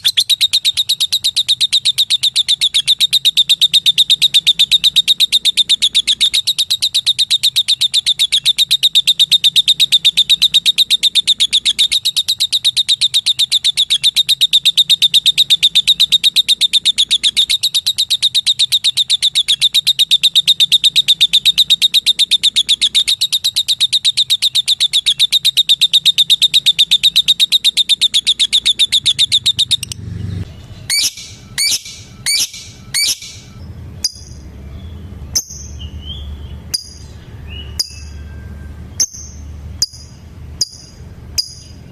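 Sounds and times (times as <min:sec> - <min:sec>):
lovebird high ticking call: 0:00.0 - 0:30.0, 0:30.8 - 0:34.4, 0:35.3 - 0:38.2, 0:39.0 - 0:41.9.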